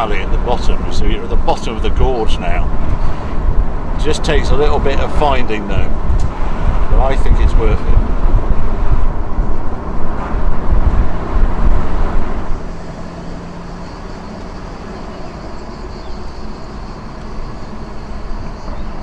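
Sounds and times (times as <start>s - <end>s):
car engine rumble from cabin: 0.0s - 19.0s.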